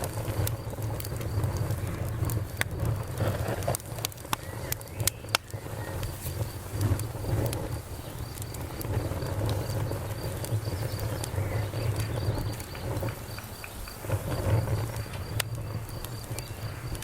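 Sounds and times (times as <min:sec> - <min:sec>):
campfire crackling and popping: 0:00.0 - 0:17.0
crickets chirping: 0:00.0 - 0:17.0.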